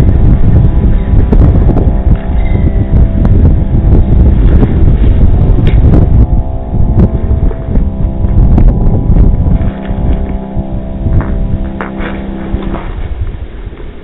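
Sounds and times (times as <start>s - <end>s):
background music: 0.0s - 13.2s
wind buffeting microphone: 0.0s - 14.0s.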